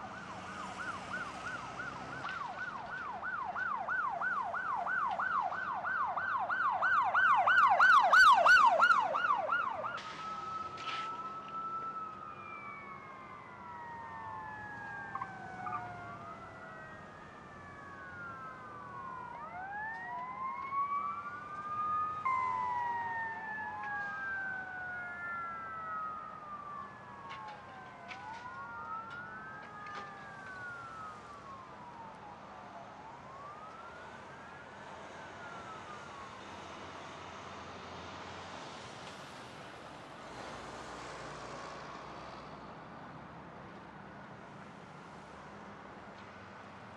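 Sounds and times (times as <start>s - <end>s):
emergency sirens wailing: 0.0s - 46.9s.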